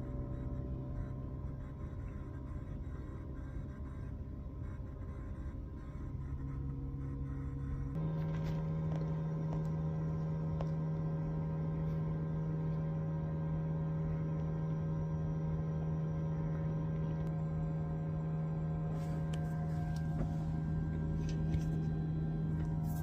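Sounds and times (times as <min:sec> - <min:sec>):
heat pump compressor humming: 0:00.0 - 0:23.0.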